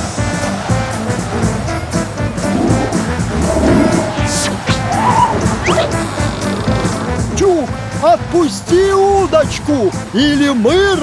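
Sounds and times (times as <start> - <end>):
dramatic cartoon music: 0.0 - 10.2.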